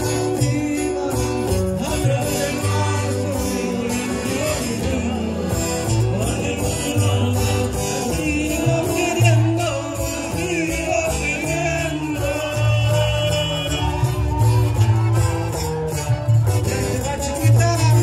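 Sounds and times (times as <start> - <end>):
accordion melody: 0.0 - 18.0
bass line: 0.0 - 18.0
guitar: 0.0 - 18.0.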